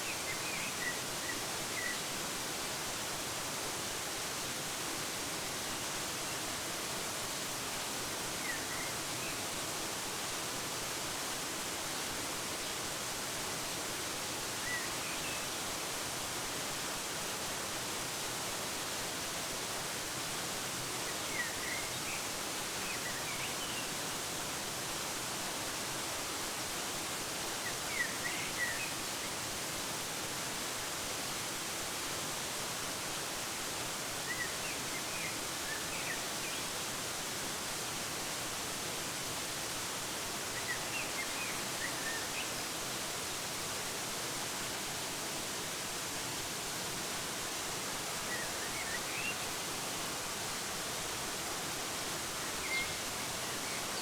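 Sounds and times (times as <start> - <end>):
waterfall rushing hiss: 0.0 - 54.0.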